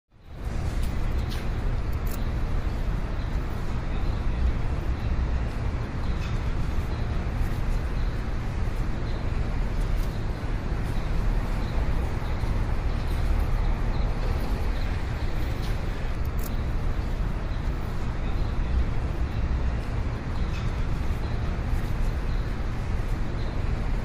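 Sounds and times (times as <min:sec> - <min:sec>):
low rumbling background noise: 0:00.2 - 0:24.0.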